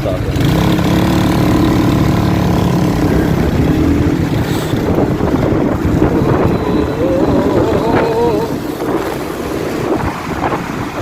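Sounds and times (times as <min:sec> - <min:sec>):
road and wind rumble: 0:00.0 - 0:11.0
vehicle engine hum: 0:00.0 - 0:11.0.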